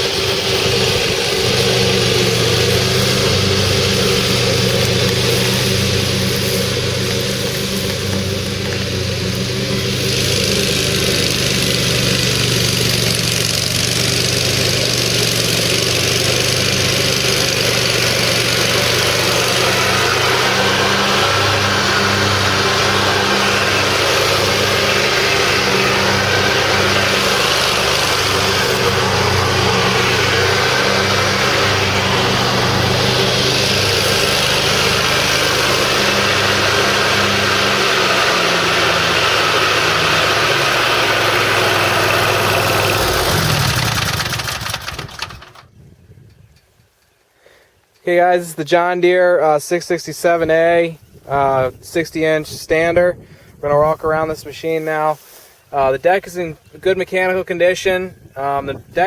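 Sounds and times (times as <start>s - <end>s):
mower engine running: 0.0s - 45.8s, 53.6s - 59.0s.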